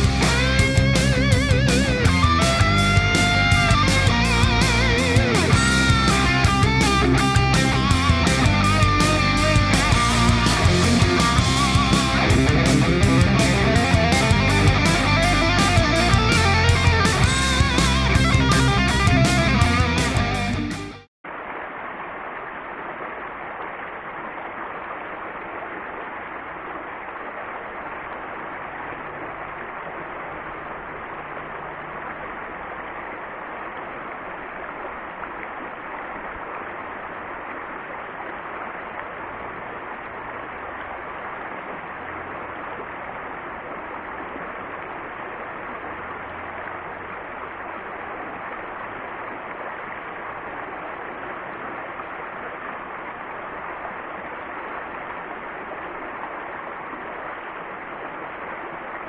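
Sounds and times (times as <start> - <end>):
creek water flowing: 0.0 - 59.0.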